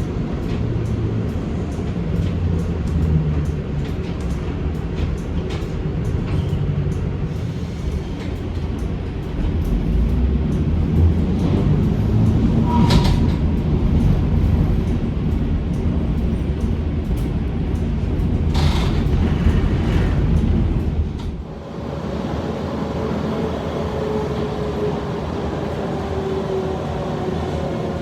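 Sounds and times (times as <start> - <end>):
tram rumbling on track: 0.0 - 28.0.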